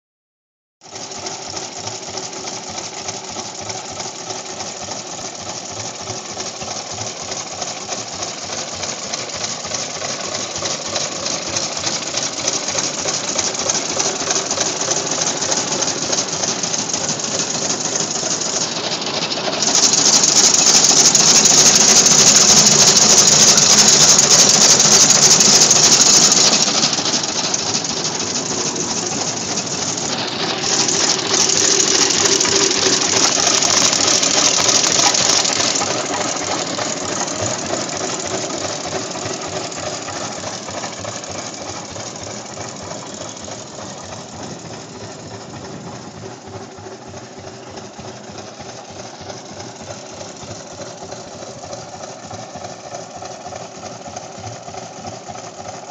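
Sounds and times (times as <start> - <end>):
tractor engine clattering: 0.8 - 55.9.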